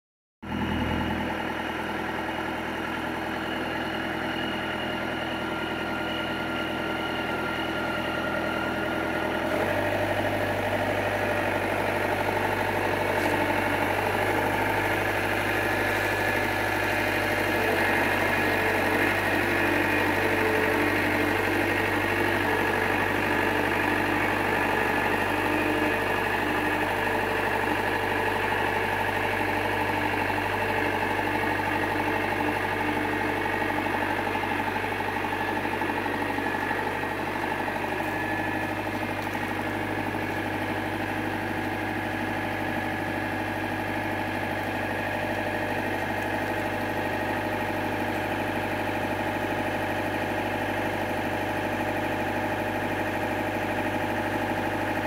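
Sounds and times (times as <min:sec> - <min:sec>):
tractor engine running: 0:00.4 - 0:55.0.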